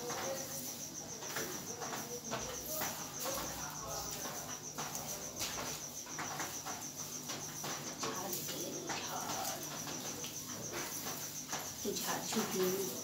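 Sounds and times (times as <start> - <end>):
broom sweeping a floor: 0.0 - 13.0
cricket chirping: 0.0 - 13.0.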